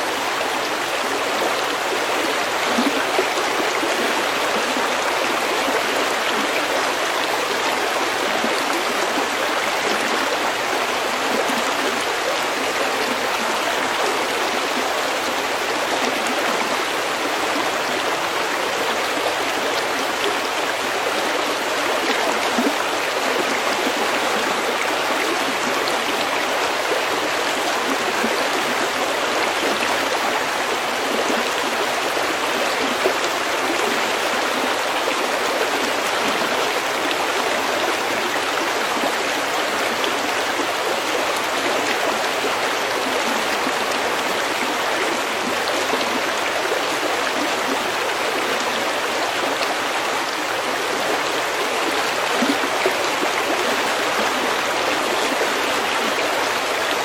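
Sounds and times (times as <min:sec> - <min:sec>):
stream babbling over pebbles: 0:00.0 - 0:57.0.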